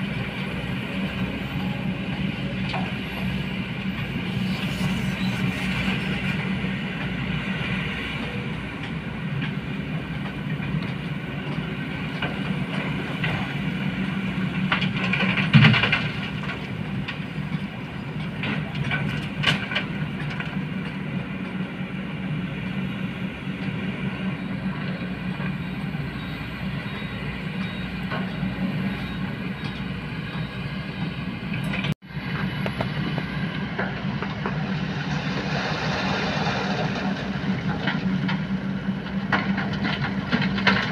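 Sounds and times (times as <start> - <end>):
excavator diesel engines running: 0.0 - 40.9.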